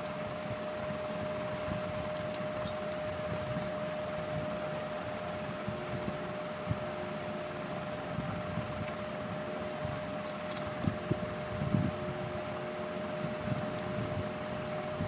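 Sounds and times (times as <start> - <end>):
small machine hiss and hum: 0.0 - 15.0.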